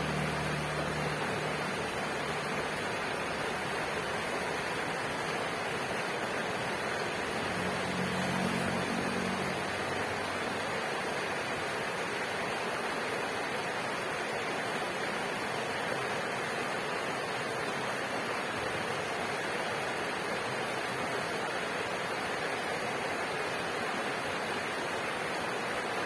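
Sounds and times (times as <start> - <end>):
river water flowing: 0.0 - 26.0.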